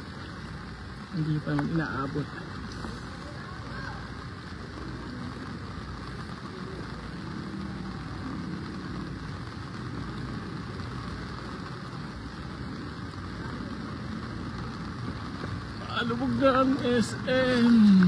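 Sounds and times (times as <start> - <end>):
floodwater and rain: 0.0 - 18.0
low vehicle engine hum: 0.0 - 18.0.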